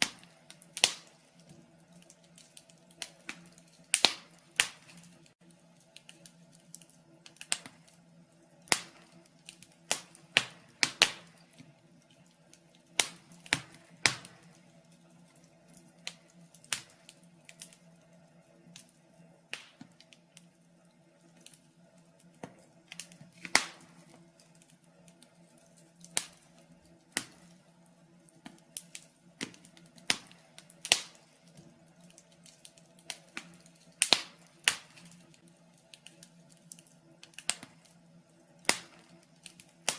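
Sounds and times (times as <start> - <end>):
faint steady hum: 0.0 - 39.9
wood fire crackling in fireplace: 0.0 - 39.9.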